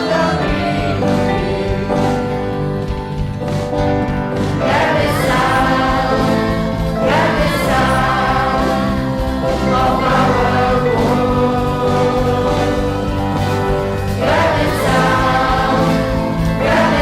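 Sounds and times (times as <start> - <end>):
choir singing: 0.0 - 2.9, 4.4 - 17.0
instrumental accompaniment: 0.0 - 17.0.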